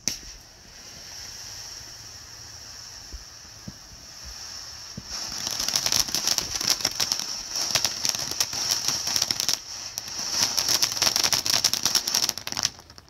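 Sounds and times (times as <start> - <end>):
firework hissing and crackling: 0.0 - 13.0.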